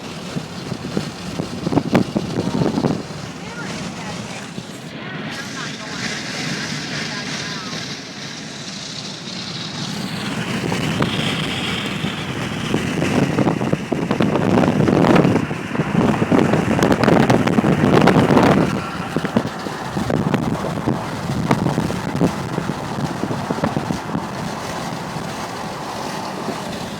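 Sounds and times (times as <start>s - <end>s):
road noise in moving car: 0.0s - 26.9s
wind buffeting microphone: 0.0s - 26.9s.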